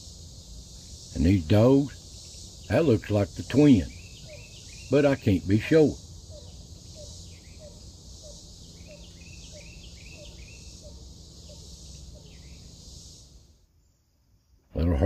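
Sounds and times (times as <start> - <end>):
bird chirping: 0.0 - 14.0
crickets buzzing: 0.0 - 15.0.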